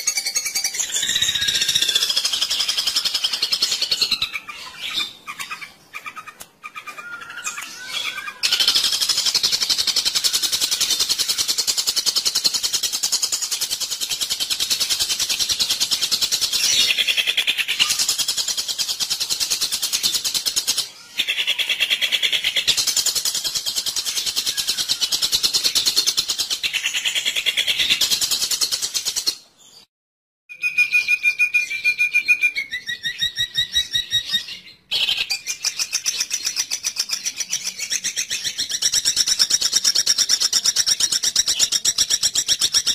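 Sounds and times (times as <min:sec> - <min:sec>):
bird harsh rapid chattering: 0:00.0 - 0:29.4, 0:33.1 - 0:42.9.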